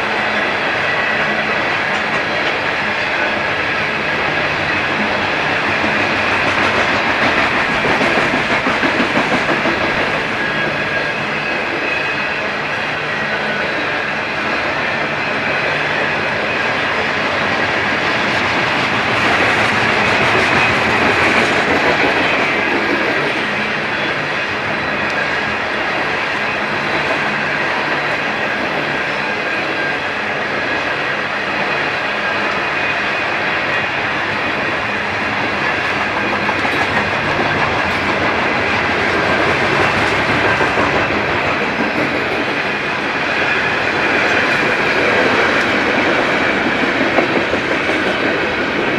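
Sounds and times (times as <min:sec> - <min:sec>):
freight train cars rolling: 0:00.0 - 0:48.9.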